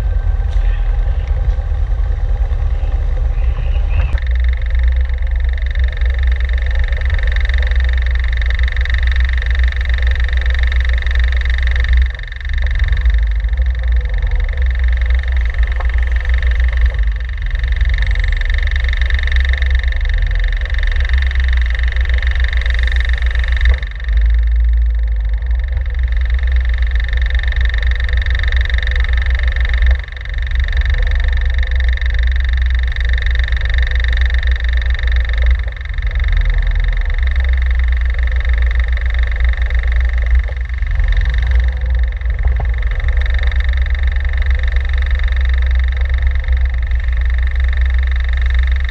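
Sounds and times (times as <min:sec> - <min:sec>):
high-pitched whine: 0:00.0 - 0:48.9
sports car engine idling: 0:00.0 - 0:48.9.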